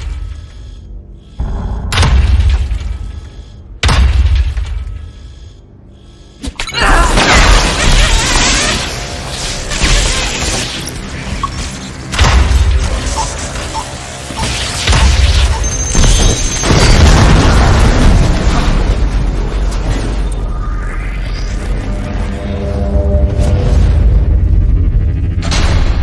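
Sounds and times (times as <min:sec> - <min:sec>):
dramatic film music with booms: 0:00.0 - 0:26.0.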